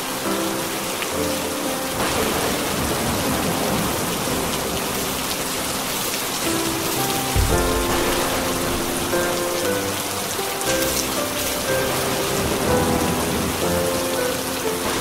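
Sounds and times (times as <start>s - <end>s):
soft sustained music notes: 0.0s - 15.0s
steady rain falling: 0.0s - 15.0s.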